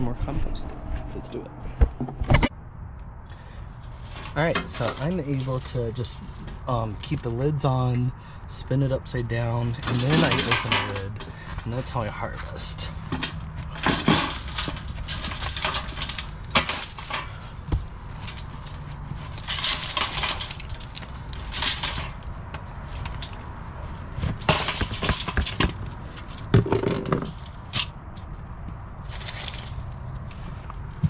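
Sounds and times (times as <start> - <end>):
compost rustling and scraping: 3.3 - 31.0.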